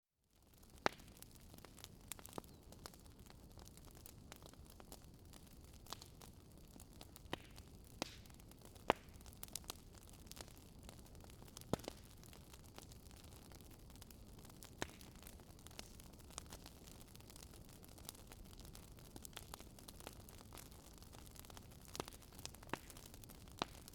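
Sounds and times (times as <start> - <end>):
wood fire crackling and popping: 0.4 - 23.9.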